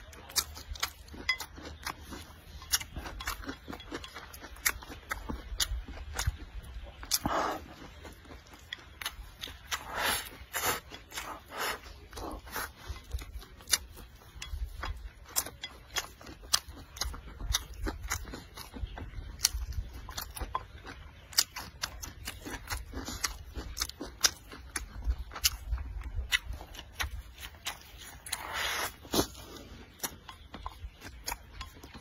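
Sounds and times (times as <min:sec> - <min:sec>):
person chewing rice: 0:00.0 - 0:32.0.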